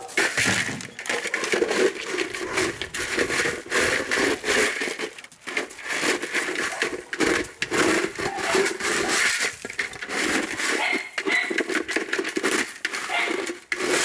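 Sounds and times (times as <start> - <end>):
gravel crunching and scraping: 0.0 - 14.0.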